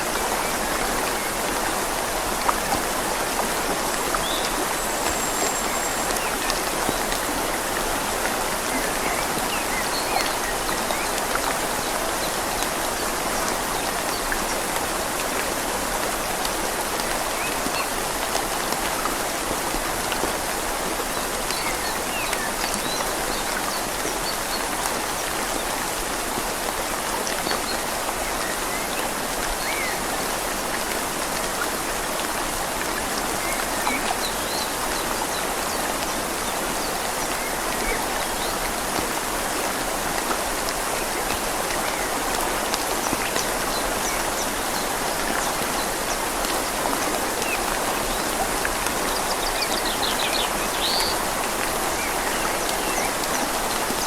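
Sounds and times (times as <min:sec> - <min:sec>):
rain falling on leaves: 0:00.0 - 0:54.0
river flowing: 0:00.0 - 0:54.0.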